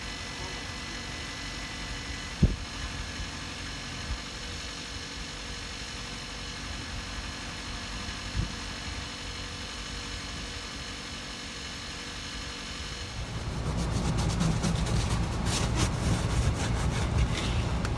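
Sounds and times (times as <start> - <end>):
car engine and road rumble: 0.0 - 17.9.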